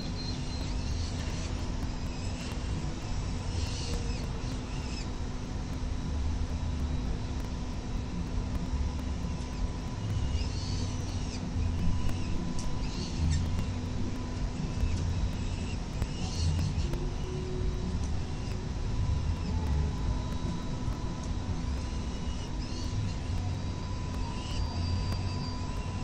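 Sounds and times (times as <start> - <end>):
city traffic rumble: 0.0 - 26.0
wind: 0.0 - 26.0.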